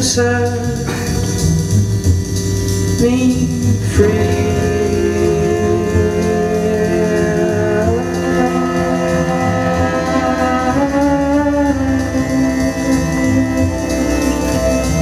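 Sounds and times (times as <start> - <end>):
slow sustained electronic chords: 0.8 - 15.0.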